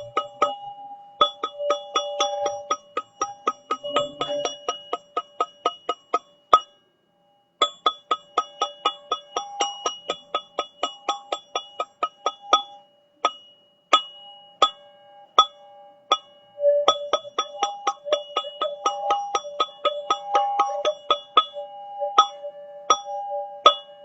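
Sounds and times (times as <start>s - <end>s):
metallic chime ringing: 0.0s - 24.0s.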